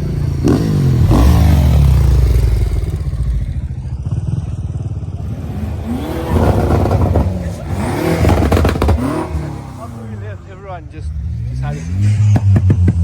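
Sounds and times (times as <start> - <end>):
car engine revving: 0.0 - 4.5, 5.2 - 13.0.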